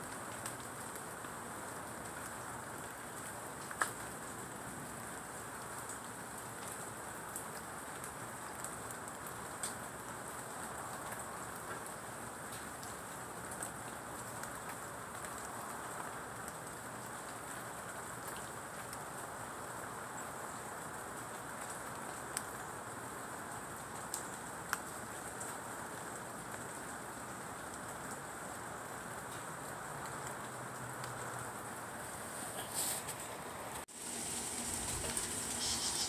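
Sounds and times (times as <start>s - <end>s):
rain on leaves and ground: 0.0s - 36.0s.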